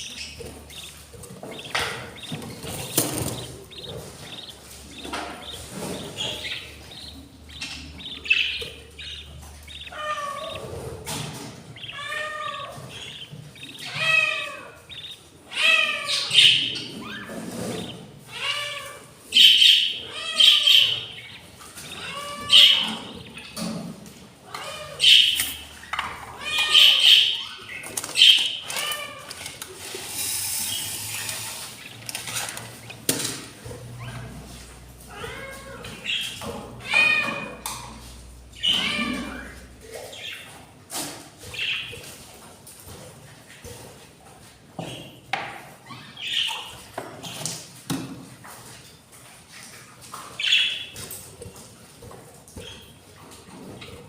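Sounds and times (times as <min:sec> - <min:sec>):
budgerigars chirping and warbling: 0:00.0 - 0:23.8, 0:24.5 - 0:40.6, 0:41.4 - 0:42.2, 0:44.8 - 0:47.6, 0:49.5 - 0:51.2.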